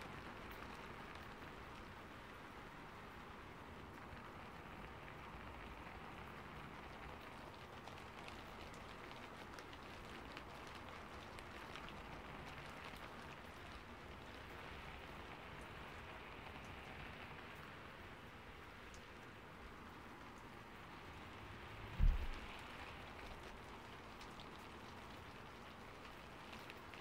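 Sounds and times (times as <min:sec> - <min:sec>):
raindrops ticking: 0:00.0 - 0:27.0
steady rain hiss: 0:00.0 - 0:27.0.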